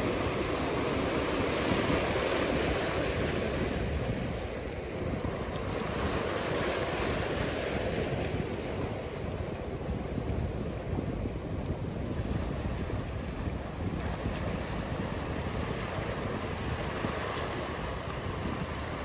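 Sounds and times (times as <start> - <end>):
ocean surf washing: 0.0 - 19.0.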